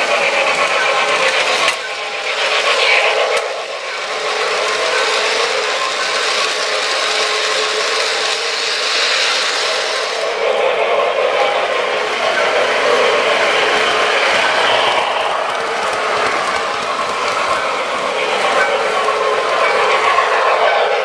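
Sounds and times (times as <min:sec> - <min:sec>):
model train wheels clattering: 0:00.0 - 0:10.3, 0:11.1 - 0:21.0.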